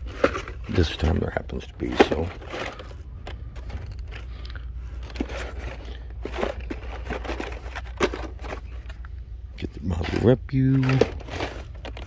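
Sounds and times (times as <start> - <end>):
low steady hum: 0.0 - 12.0
plastic packs rustling and clicking: 0.0 - 12.0.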